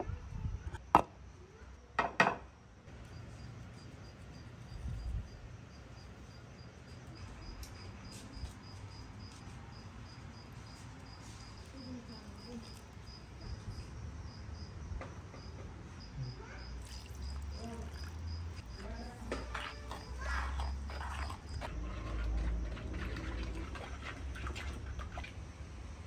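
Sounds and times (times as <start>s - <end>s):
cricket chirping: 2.4s - 25.3s.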